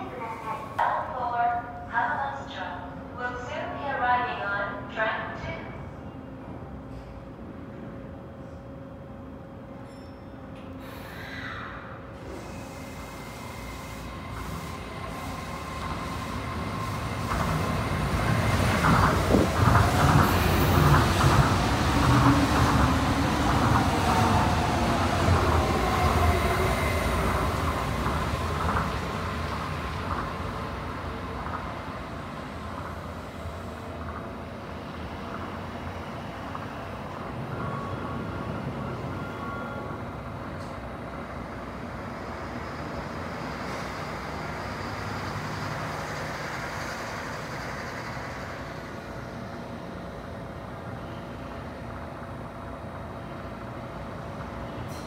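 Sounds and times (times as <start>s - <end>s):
monorail train passing: 0.0s - 55.0s.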